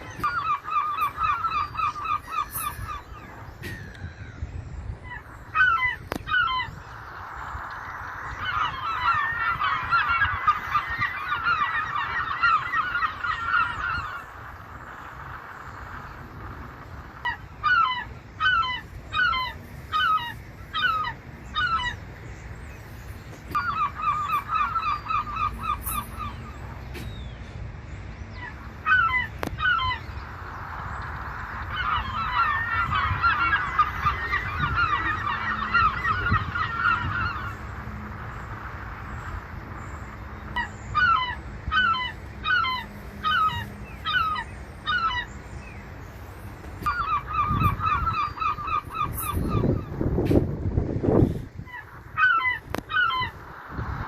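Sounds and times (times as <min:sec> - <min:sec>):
gulls calling: 0:00.0 - 0:54.0.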